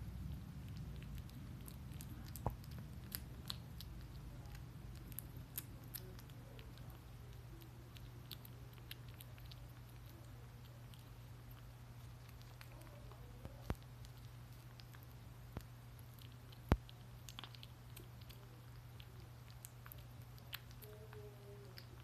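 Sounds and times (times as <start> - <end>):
kitten chewing wet food: 0.0 - 22.0.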